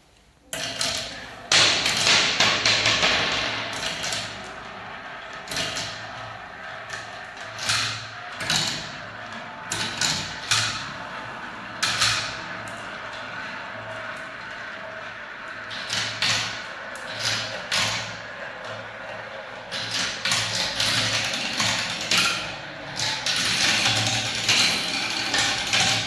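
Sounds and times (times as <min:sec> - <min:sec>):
balls clacking on track: 0:00.6 - 0:26.0
balls rolling rattle: 0:00.6 - 0:26.0.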